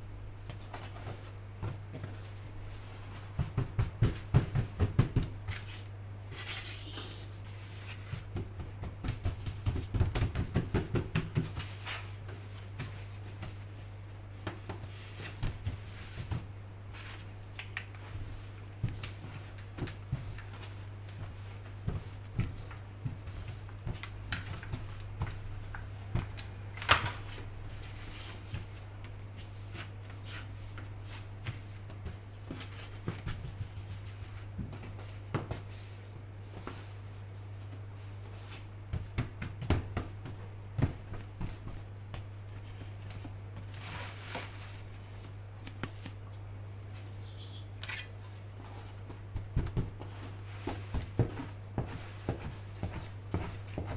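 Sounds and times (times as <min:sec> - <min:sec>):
hands shaping dough on surface: 0:00.1 - 0:53.9.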